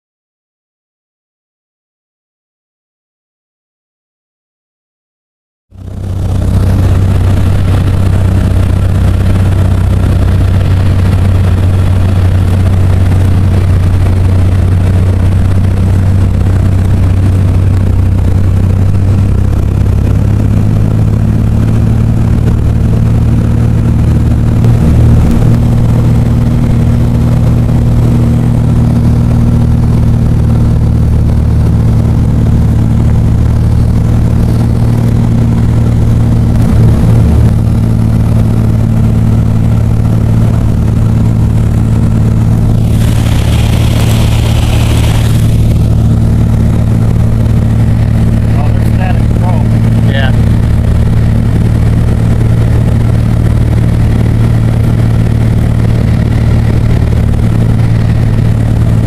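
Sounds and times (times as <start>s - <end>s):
aircraft engine drone: 5.7s - 59.0s.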